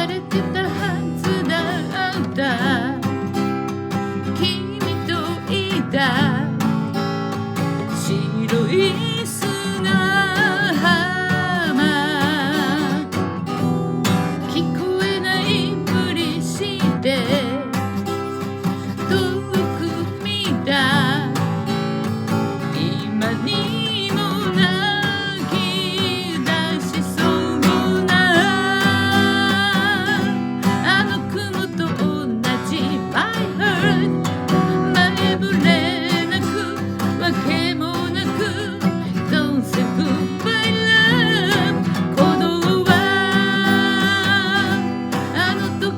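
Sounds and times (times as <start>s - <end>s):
person singing with vibrato: 0.0s - 6.7s, 7.6s - 45.9s
acoustic guitar strumming: 0.0s - 45.9s.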